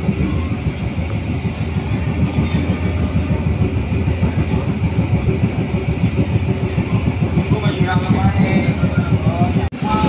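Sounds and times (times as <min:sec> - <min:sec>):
train rattling: 0:00.0 - 0:10.0
train rumbling on track: 0:00.0 - 0:10.0.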